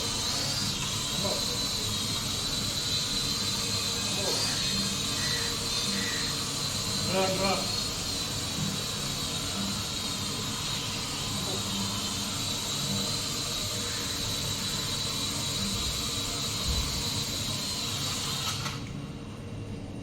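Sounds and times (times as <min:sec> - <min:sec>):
toy drone whining: 0:00.0 - 0:18.9.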